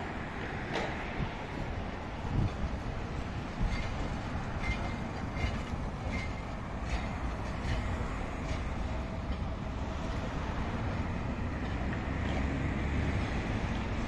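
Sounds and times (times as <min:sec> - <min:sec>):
tram rumbling past: 0:00.0 - 0:14.0
wheels clicking over rail joints: 0:00.0 - 0:14.0.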